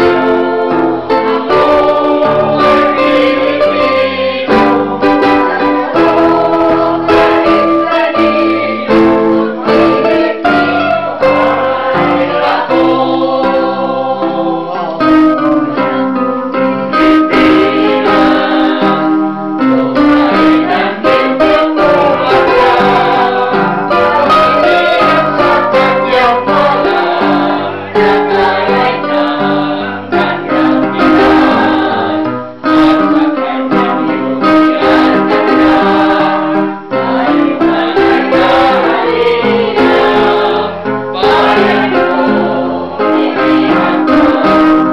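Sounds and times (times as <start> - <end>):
electronic keyboard playing chords: 0.0 - 44.9
women's choir singing in unison: 0.0 - 44.9.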